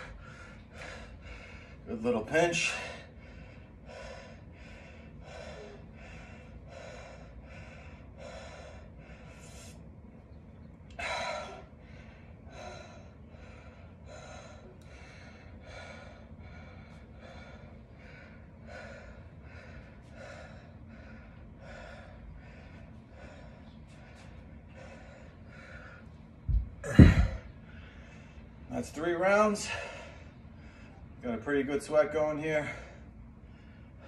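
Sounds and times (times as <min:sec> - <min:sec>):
man breathing hard: 0:00.0 - 0:31.2, 0:32.3 - 0:34.0.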